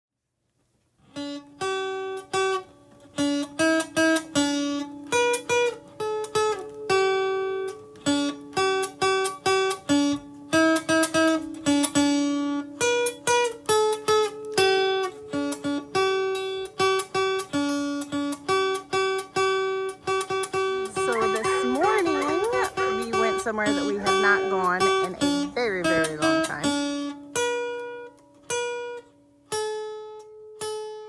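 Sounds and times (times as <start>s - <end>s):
acoustic guitar music: 1.0s - 31.0s.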